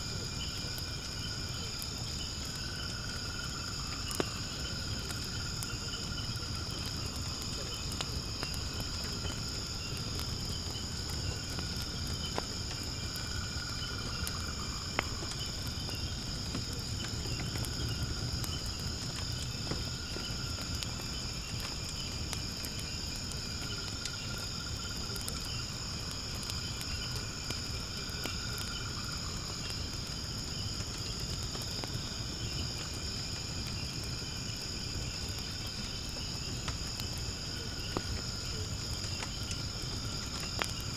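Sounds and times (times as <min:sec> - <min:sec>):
burning wood crackling: 0:00.0 - 0:40.9
fire burning: 0:00.0 - 0:40.9
insect chorus: 0:00.0 - 0:40.9.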